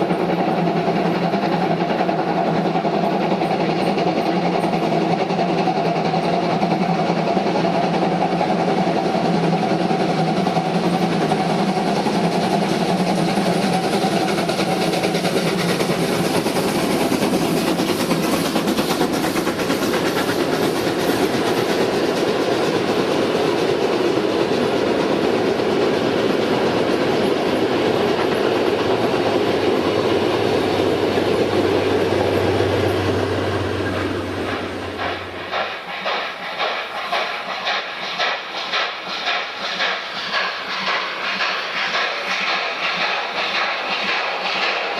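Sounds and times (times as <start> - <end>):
train wheels clattering: 0.0 - 44.9.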